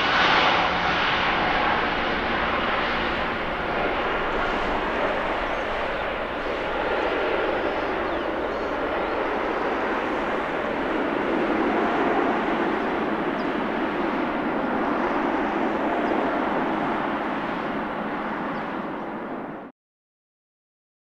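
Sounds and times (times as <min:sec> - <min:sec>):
jet engines at climb power: 0:00.0 - 0:19.7.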